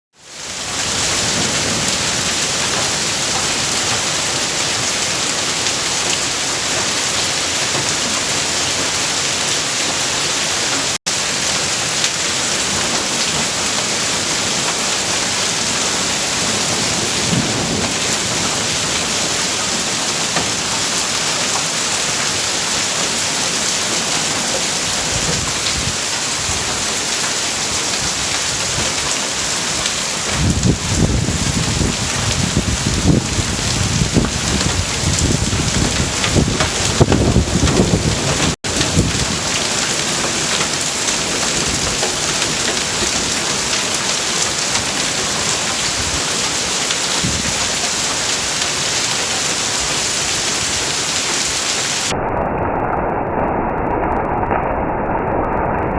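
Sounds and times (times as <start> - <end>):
hail and rain pelting down: 0.2 - 52.2.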